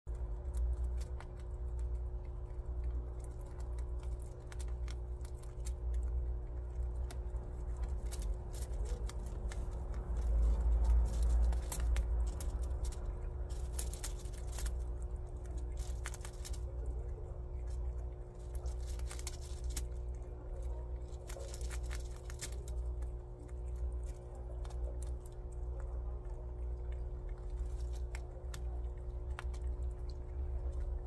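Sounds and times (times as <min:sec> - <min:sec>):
prairie dog chewing grass: 0:00.1 - 0:31.0
steady low hum: 0:00.1 - 0:31.0.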